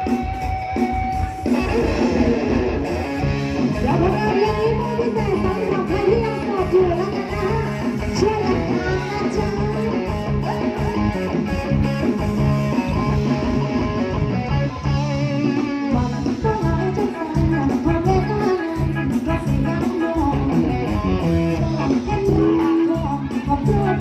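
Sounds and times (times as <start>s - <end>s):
bass guitar: 0.0s - 24.0s
guitar lines: 0.0s - 24.0s.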